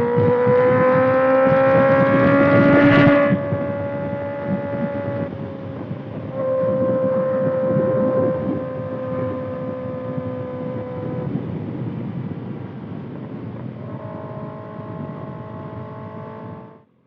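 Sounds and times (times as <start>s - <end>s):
motorcycle engine droning: 0.0s - 17.0s
wind rush on microphone: 0.0s - 17.0s.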